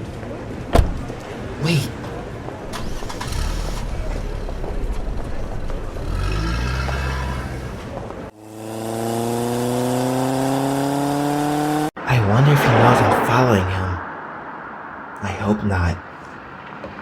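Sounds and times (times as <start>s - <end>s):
car engine revving: 1.5s - 15.2s.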